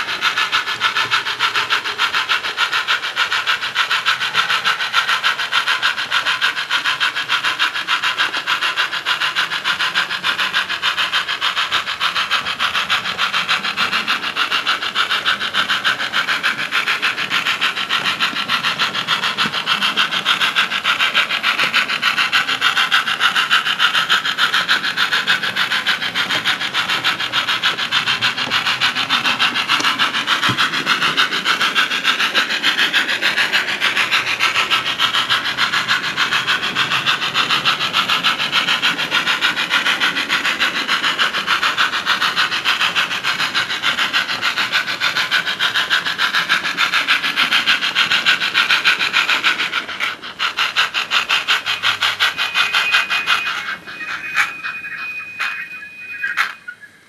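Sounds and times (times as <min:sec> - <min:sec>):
model steam locomotive running: 0:00.0 - 0:57.0.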